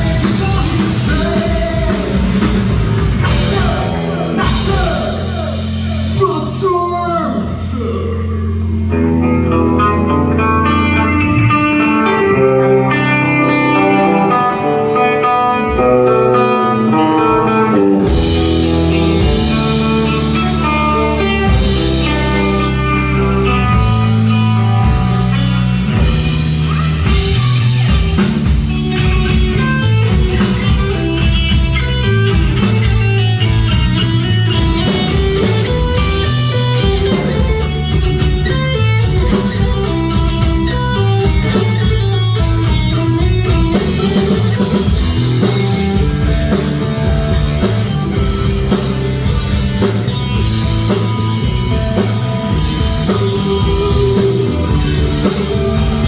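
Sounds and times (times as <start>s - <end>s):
drum kit: 0.0s - 8.0s, 8.6s - 56.0s
electric guitars: 0.0s - 56.0s
heavy metal music: 0.0s - 56.0s.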